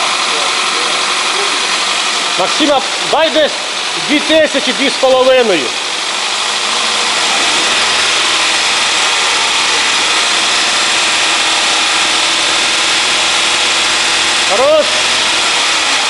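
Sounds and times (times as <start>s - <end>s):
car engine held revving: 0.0s - 16.0s.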